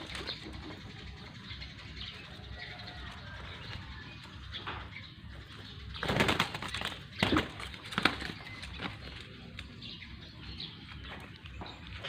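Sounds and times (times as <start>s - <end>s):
birds calling and cooing: 0.0s - 12.0s.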